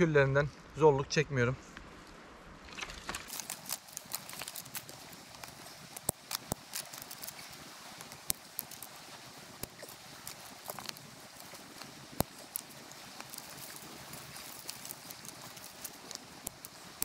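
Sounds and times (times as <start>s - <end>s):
dry branches snapping: 2.7s - 17.0s.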